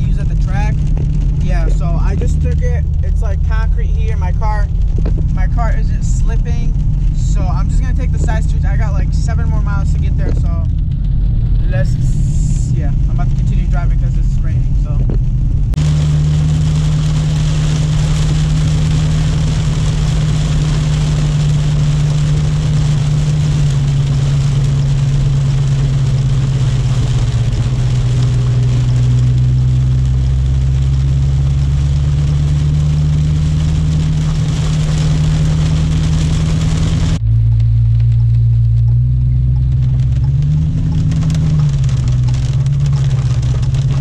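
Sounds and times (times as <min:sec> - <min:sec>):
tyres hissing on wet pavement: 0:00.0 - 0:14.5, 0:15.8 - 0:44.0
car engine running: 0:00.0 - 0:44.0.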